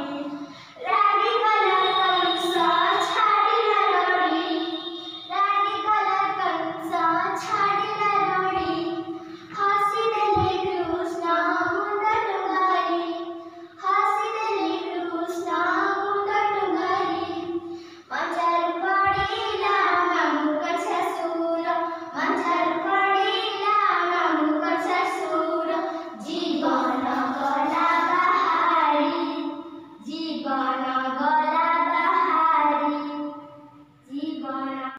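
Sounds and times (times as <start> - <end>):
girls singing: 0.0 - 33.7.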